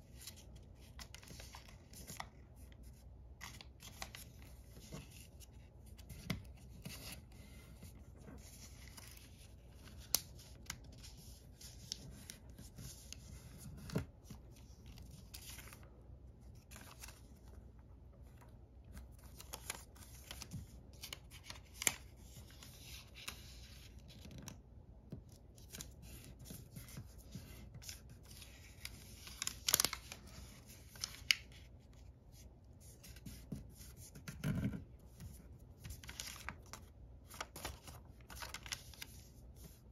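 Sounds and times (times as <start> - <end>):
paper rustling and crinkling: 0.0 - 24.6, 25.3 - 39.9.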